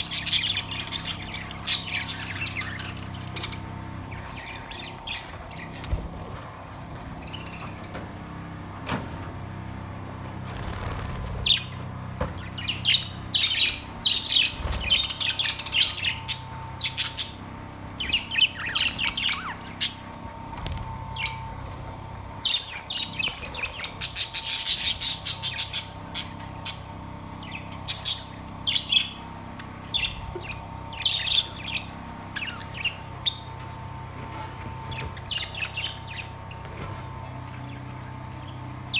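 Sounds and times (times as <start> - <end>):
budgerigars chirping: 0.0 - 8.2, 10.5 - 37.0
steady low hum: 0.0 - 38.9.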